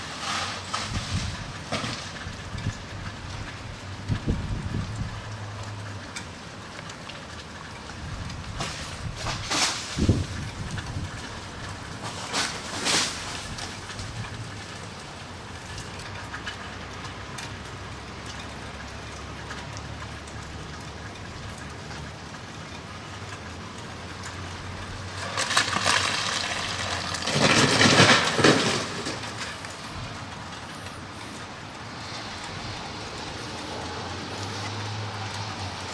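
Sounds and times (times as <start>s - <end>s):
freezing rain hissing: 0.0s - 35.9s.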